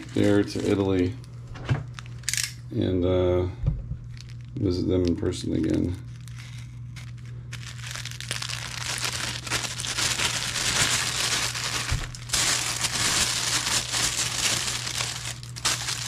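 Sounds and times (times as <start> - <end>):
tissue paper crinkling: 0.0 - 1.2, 1.9 - 2.3, 4.0 - 16.0.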